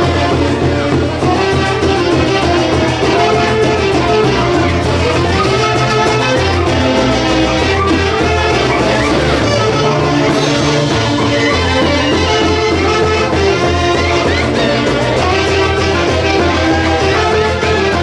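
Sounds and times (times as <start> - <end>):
folk orchestra playing live: 0.0 - 18.0.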